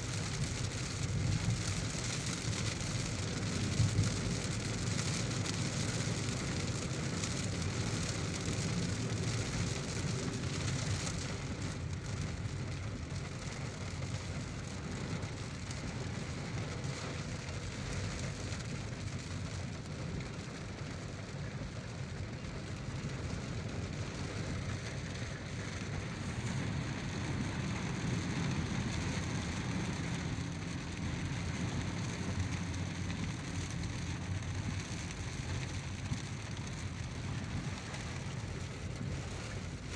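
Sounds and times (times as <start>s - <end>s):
heavy rain: 0.0s - 39.9s
moving car road noise: 0.0s - 39.9s.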